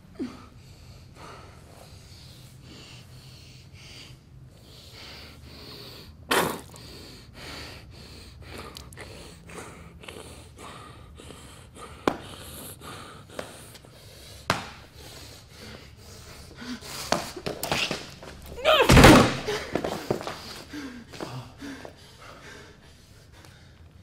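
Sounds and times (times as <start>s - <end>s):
woman breathing heavily and gasping: 0.0s - 24.0s.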